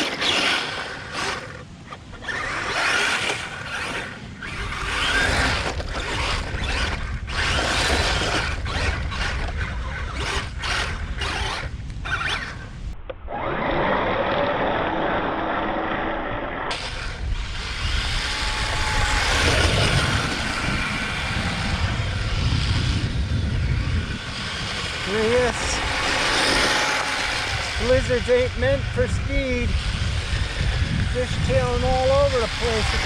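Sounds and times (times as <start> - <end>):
rc vehicle motors and tracks: 0.0 - 33.0.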